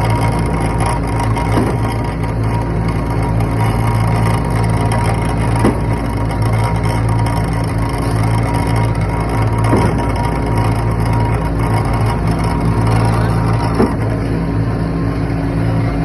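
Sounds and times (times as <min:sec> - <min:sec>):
diesel engine under load: 0:00.0 - 0:16.0.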